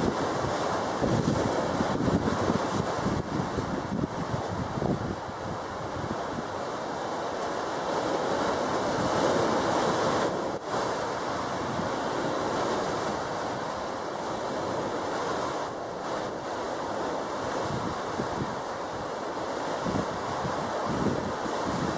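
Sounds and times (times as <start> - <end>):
sea surf: 0.0 - 21.9
wind: 0.0 - 21.9.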